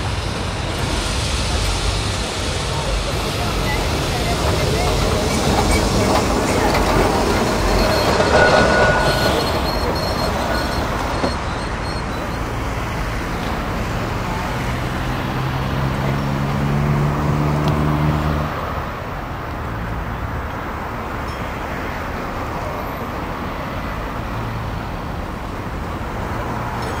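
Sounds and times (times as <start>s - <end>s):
electric tram rolling: 0.0s - 27.0s.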